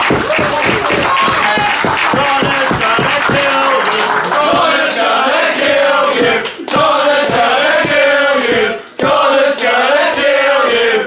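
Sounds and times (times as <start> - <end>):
crowd chanting in unison: 0.1 - 11.0.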